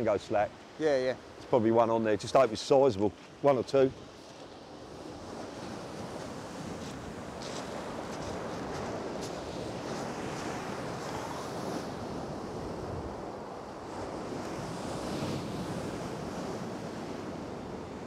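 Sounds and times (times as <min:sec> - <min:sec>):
surf washing up shingle beach: 0:00.0 - 0:18.0.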